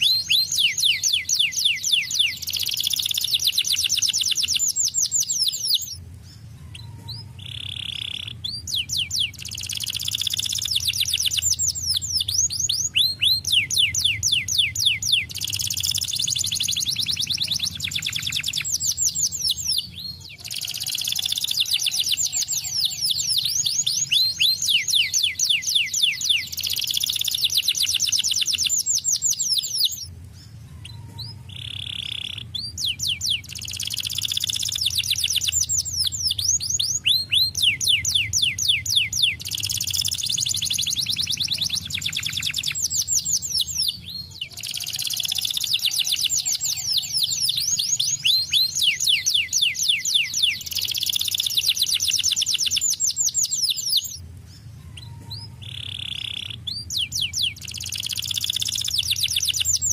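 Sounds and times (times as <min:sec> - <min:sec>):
canary trilling: 0:00.0 - 0:59.9.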